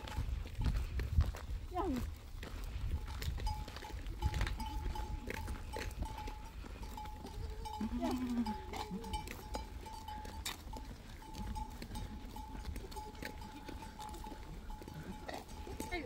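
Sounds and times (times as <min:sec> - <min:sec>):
goat bells tinkling: 0:00.0 - 0:01.0, 0:02.6 - 0:16.0
hooves clicking on road: 0:00.0 - 0:16.0.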